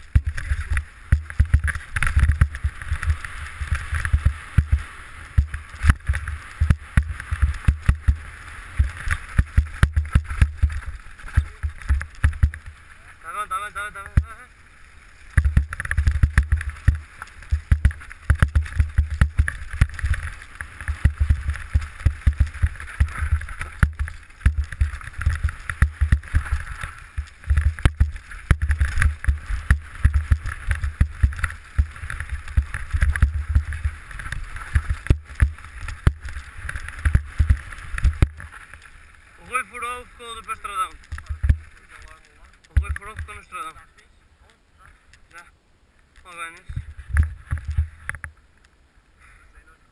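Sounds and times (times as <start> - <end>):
bike rattles and knocks: 0.0 - 12.8, 15.3 - 39.0, 40.6 - 43.5, 46.7 - 48.3.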